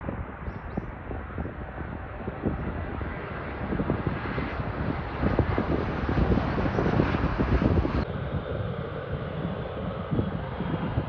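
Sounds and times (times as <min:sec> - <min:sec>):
jet airliner engine noise: 0:00.0 - 0:11.0
wind buffeting microphone: 0:00.0 - 0:11.0.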